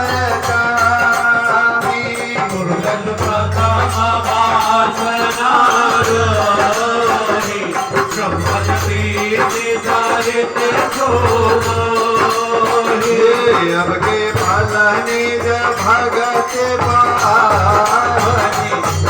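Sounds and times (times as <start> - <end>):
harmonium melody: 0.0 - 19.0
jingling hand percussion: 0.0 - 19.0.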